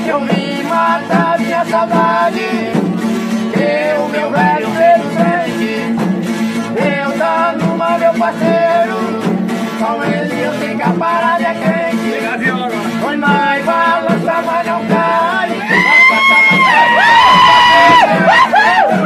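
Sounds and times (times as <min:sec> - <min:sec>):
frame drums with jingles: 0:00.0 - 0:19.0
men singing a chant: 0:00.0 - 0:19.0.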